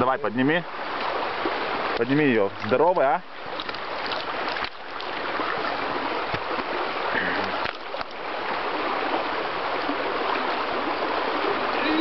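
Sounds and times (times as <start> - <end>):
creek water running over stones: 0.0 - 12.0.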